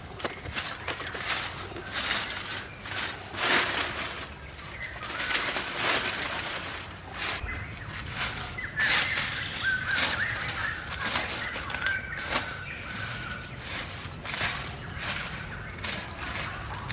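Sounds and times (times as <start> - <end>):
bird chirping: 0.0 - 16.9
dry leaves swept by hand: 0.3 - 16.9.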